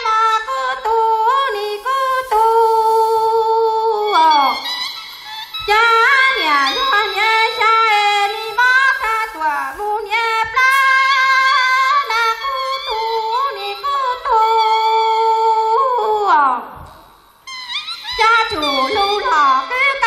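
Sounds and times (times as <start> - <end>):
woman singing unaccompanied: 0.0 - 4.8, 5.5 - 17.0, 18.1 - 20.0.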